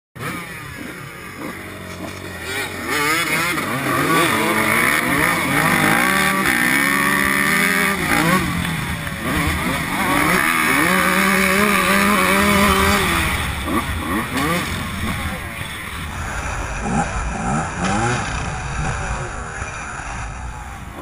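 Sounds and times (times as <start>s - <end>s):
dirt bike engine revving: 0.2s - 21.0s.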